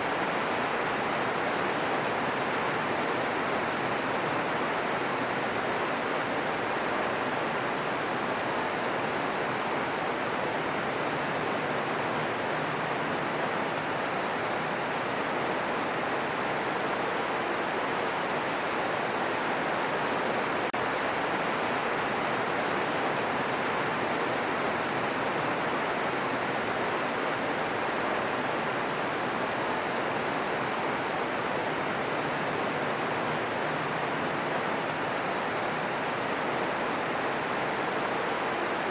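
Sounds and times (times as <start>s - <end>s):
steady green noise: 0.0s - 38.9s.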